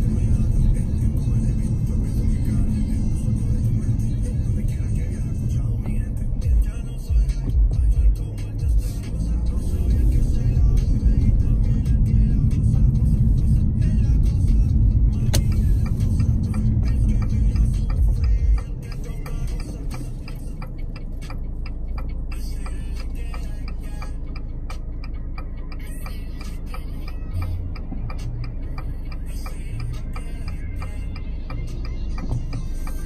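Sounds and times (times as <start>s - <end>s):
road and engine rumble: 0.0s - 33.0s
turn signal ticking: 0.0s - 33.0s.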